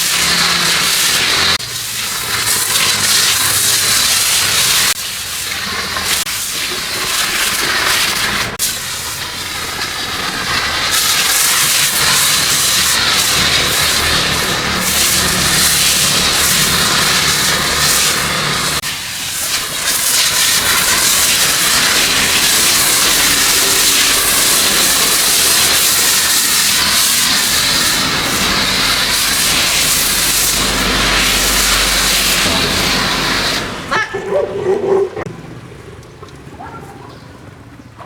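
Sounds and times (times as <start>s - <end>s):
pressurised spray hissing: 0.0s - 33.9s.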